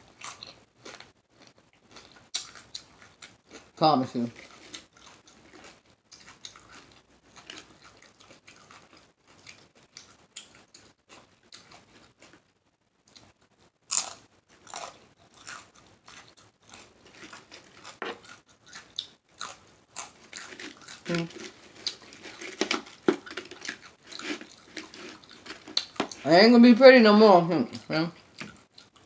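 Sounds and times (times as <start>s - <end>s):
mouth chewing and lip-smacking: 0.2s - 3.7s, 4.3s - 12.4s, 13.9s - 26.2s, 27.7s - 29.0s.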